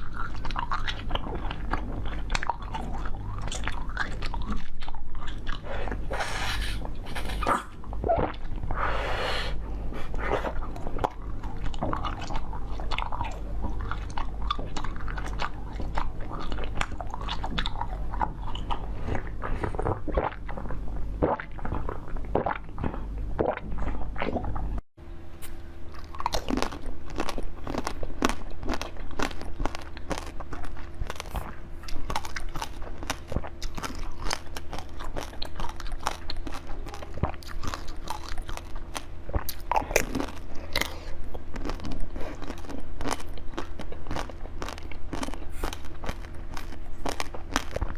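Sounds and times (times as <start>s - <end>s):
person chewing crunchy food: 0.0s - 24.8s, 25.4s - 47.9s
low hum: 0.0s - 47.9s.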